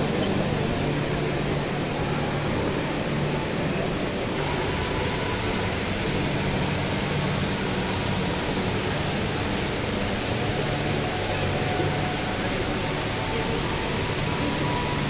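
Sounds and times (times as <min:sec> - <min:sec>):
waterfall rushing hiss: 0:00.0 - 0:15.0.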